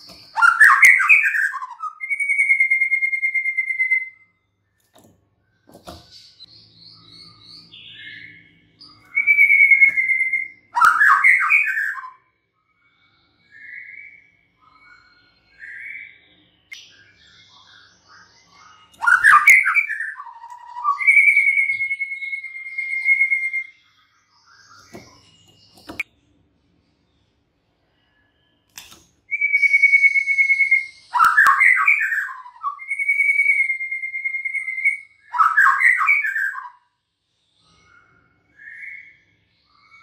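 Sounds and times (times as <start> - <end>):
bird singing whistled phrases: 0.0 - 4.4, 6.0 - 12.3, 13.0 - 26.1, 28.0 - 36.9, 37.7 - 40.0.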